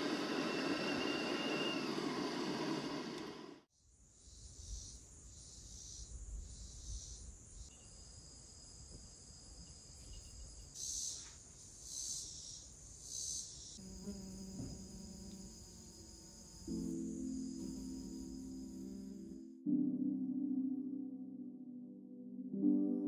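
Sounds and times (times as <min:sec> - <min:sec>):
insects droning: 0:00.0 - 0:19.5.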